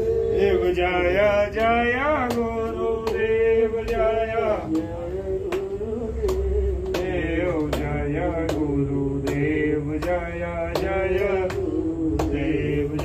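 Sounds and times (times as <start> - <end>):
men singing a chant: 0.0 - 13.0.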